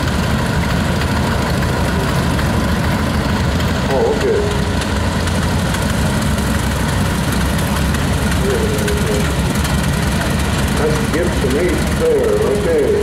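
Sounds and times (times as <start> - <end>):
tractor engines chugging: 0.0 - 13.0.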